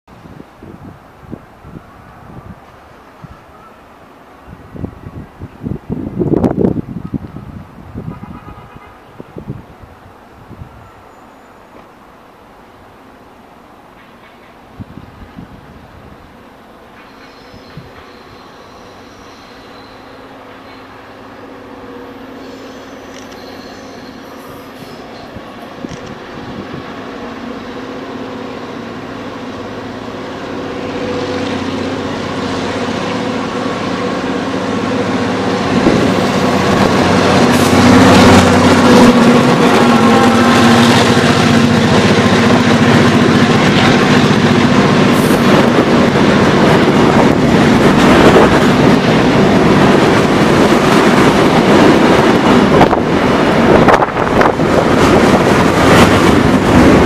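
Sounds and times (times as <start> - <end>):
diesel locomotive droning: 0.1 - 57.0
rail cars knocking: 0.1 - 57.0
train wheels rumbling on rail: 0.1 - 57.0.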